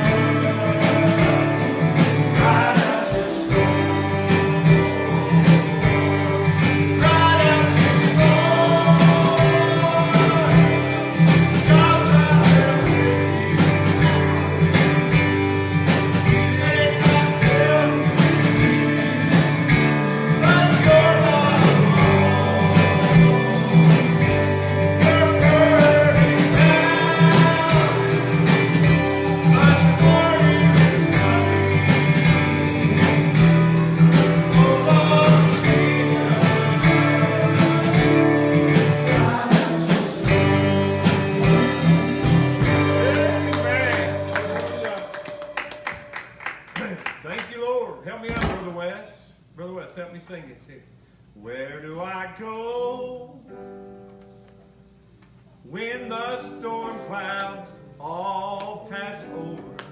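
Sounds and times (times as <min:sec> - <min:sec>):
guitar: 0:00.0 - 0:47.6, 0:52.0 - 0:59.9
worship band playing: 0:00.0 - 0:48.8.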